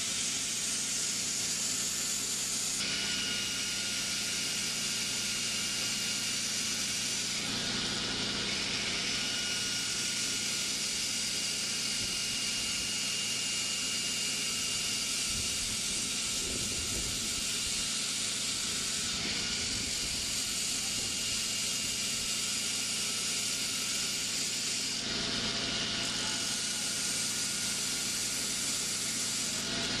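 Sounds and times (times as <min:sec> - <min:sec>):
grinder grinding steel: 0:00.0 - 0:30.0.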